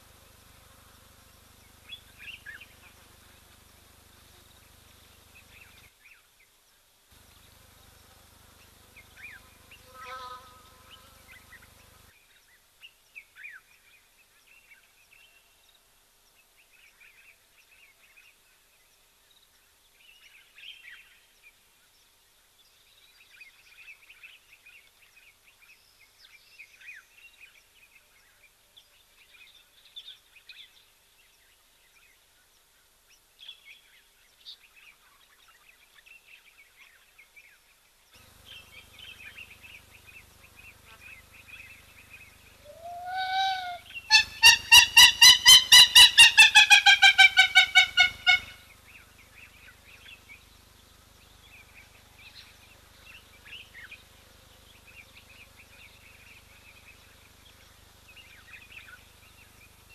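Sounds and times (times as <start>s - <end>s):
wild birds chirping: 0.0s - 18.5s, 22.7s - 59.9s.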